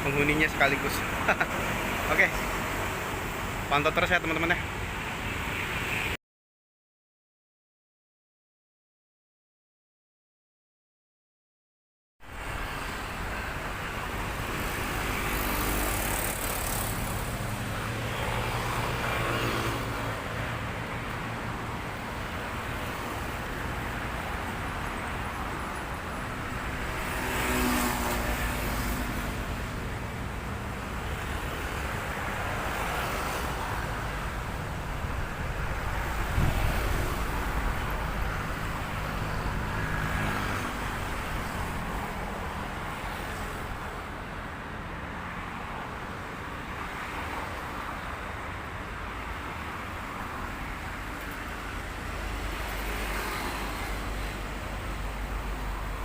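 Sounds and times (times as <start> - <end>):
vehicles passing by: 0.0 - 6.2, 12.2 - 56.0.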